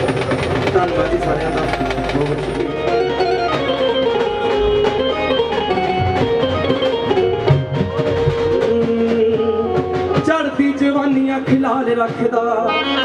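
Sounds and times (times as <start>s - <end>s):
held melody: 0.0s - 11.5s
steady drum strokes: 0.0s - 12.7s.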